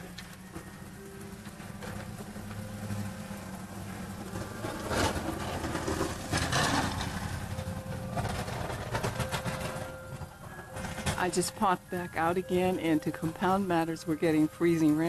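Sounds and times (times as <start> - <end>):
truck engine hum while plowing snow: 0.0 - 15.0.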